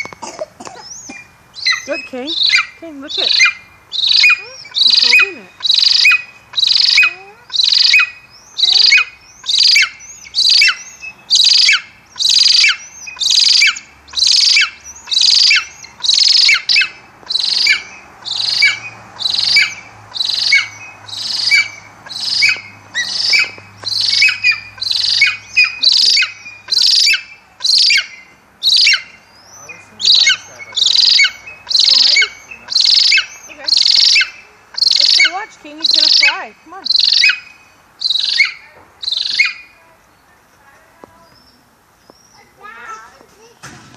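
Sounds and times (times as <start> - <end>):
eagle yelping: 0.0 - 39.8.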